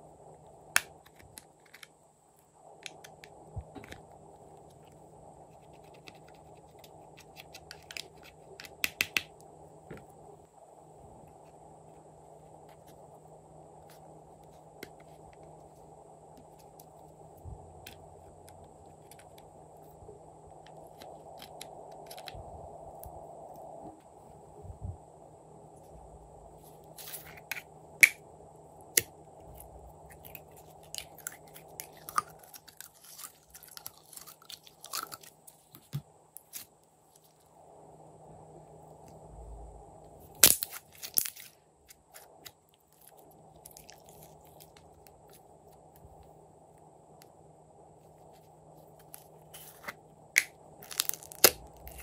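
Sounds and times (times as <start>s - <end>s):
steady low hiss: 0.0s - 52.0s.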